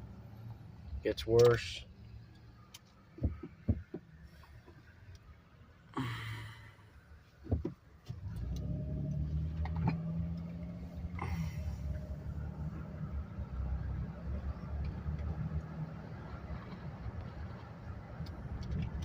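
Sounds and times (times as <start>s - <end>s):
car engine hum and road noise: 0.0s - 19.0s.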